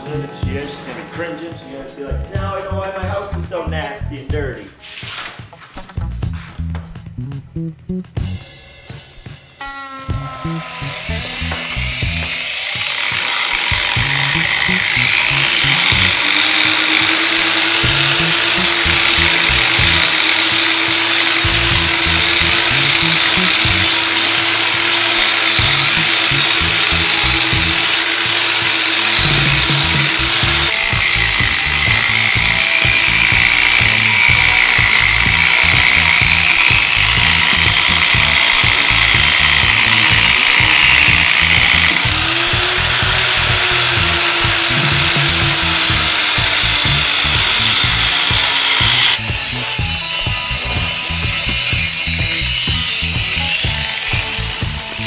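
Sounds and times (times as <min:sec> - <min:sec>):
angle grinder sanding concrete: 0:10.5 - 0:55.0.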